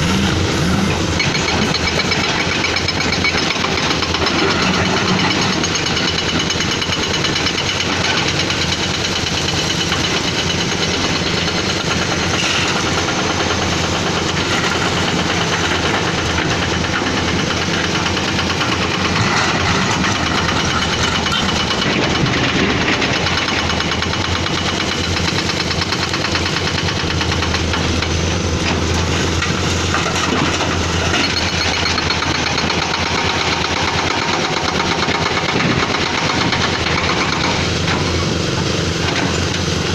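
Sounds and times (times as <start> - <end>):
excavator diesel engine clattering: 0.0 - 39.9.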